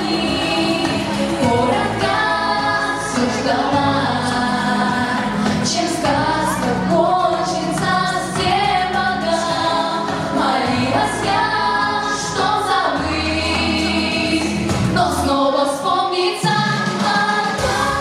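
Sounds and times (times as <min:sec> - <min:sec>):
instrumental backing track: 0:00.0 - 0:18.0
women singing pop song: 0:00.0 - 0:18.0.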